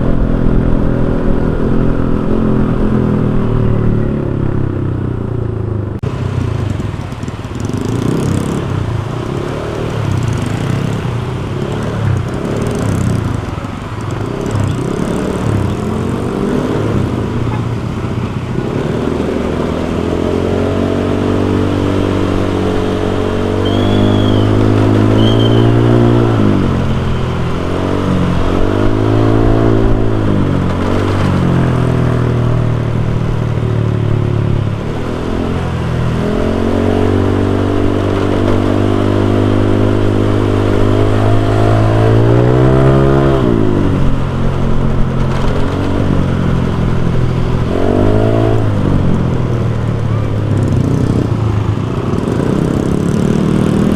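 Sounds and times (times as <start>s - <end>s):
scooter engine accelerating: 0.0s - 53.9s.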